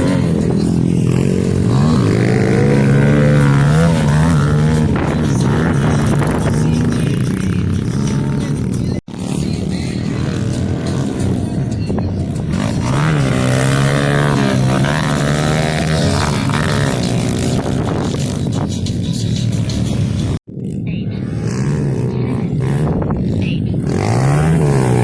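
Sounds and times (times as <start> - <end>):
small motorbike engines revving: 0.0 - 25.0.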